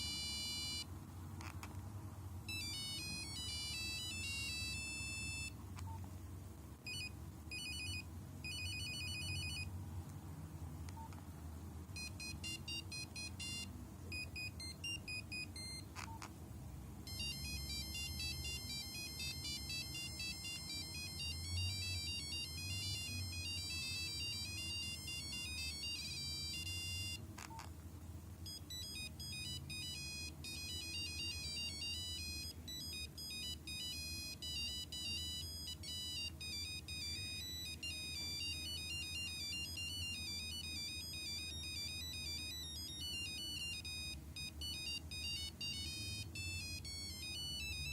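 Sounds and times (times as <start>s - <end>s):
phone ringtone beeping tunes: 0.0s - 0.9s, 2.4s - 5.9s, 6.8s - 9.8s, 11.9s - 16.3s, 17.0s - 27.7s, 28.4s - 47.9s.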